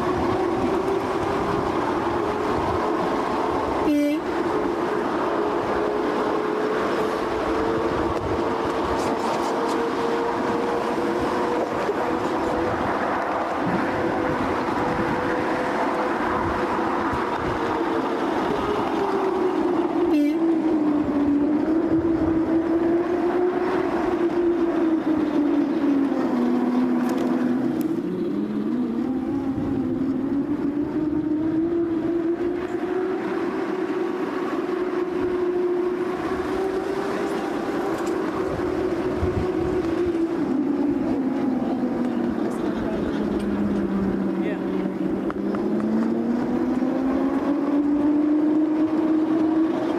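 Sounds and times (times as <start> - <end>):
train drone with wavering hum: 0.0 - 49.9
wheels rumbling on rail: 0.0 - 49.9.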